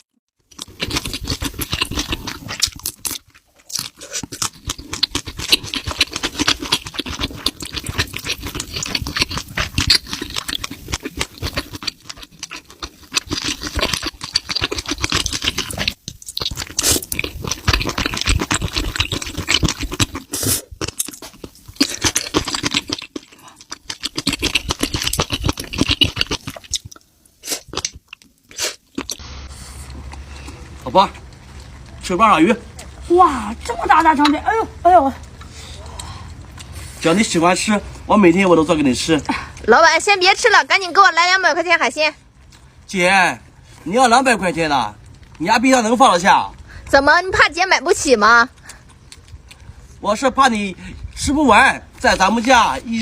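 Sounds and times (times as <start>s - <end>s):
person chewing and crunching: 0.0s - 34.4s, 35.2s - 39.7s, 42.2s - 53.0s.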